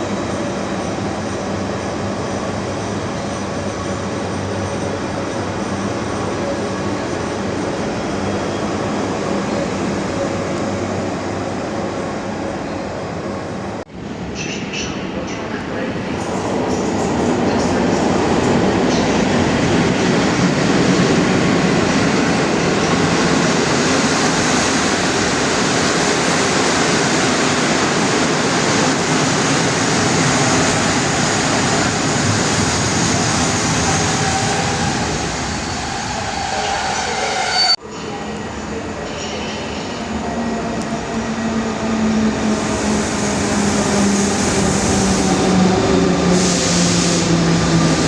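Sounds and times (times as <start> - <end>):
train rumbling on rails: 0.0 - 48.0.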